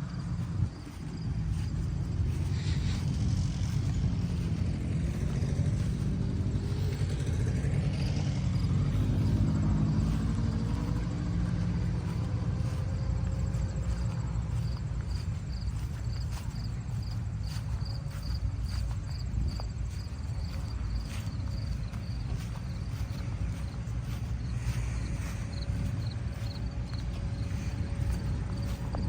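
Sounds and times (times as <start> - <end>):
engine running with low rumble: 0.0 - 29.0.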